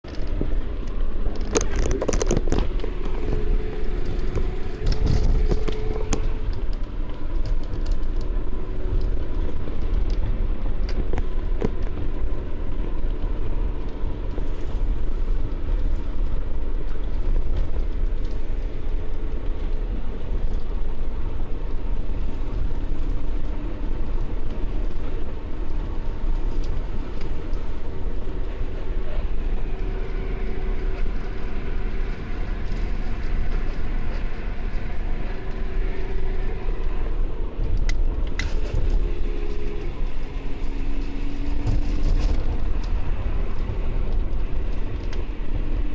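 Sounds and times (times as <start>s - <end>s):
droning drivetrain tone: 0.0s - 45.9s
road rumble: 0.0s - 45.9s.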